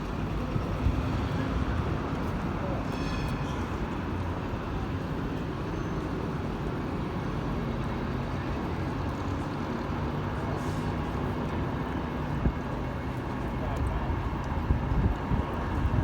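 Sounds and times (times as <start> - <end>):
tram rumbling: 0.0 - 16.0.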